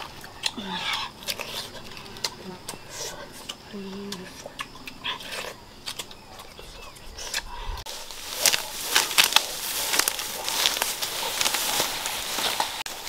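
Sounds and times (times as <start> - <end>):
grass and undergrowth rustling: 0.0 - 13.0.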